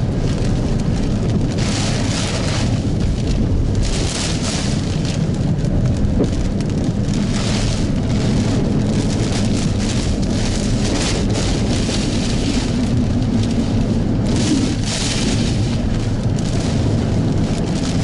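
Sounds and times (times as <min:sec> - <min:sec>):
heavy rain pouring: 0:00.0 - 0:18.0
steady low rumble: 0:00.0 - 0:18.0.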